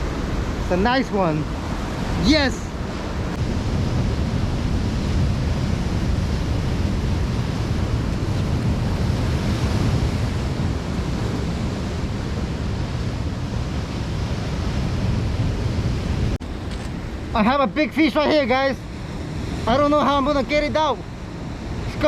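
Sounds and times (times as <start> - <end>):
surf breaking on rocks: 0.0 - 20.9
wind buffeting microphone: 0.0 - 22.0.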